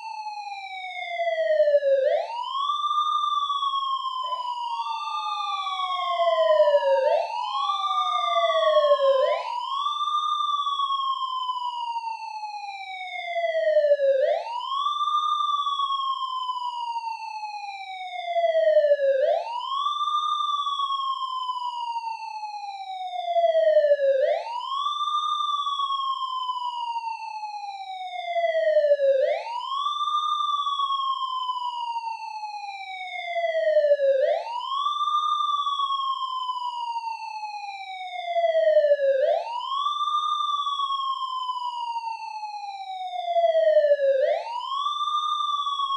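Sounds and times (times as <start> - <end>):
air-raid siren wailing: 0.0 - 45.9.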